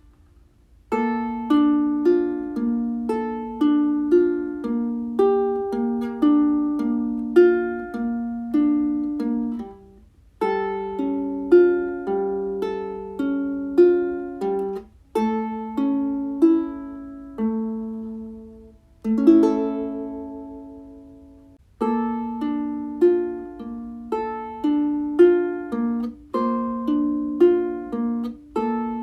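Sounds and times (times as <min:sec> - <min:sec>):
plucked string instrument melody: 0:00.8 - 0:29.0.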